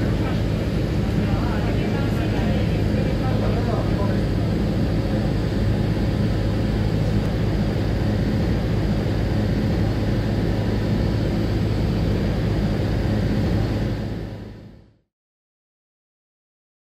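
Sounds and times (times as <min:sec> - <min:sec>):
jet cabin engine hum: 0:00.0 - 0:15.1.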